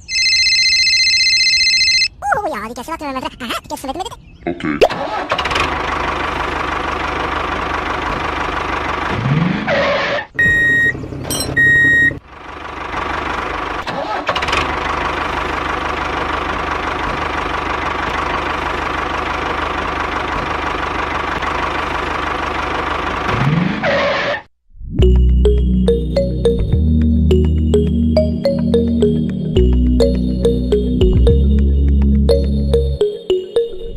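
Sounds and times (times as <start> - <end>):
tractor engine running: 5.0 - 24.2, 25.0 - 33.6.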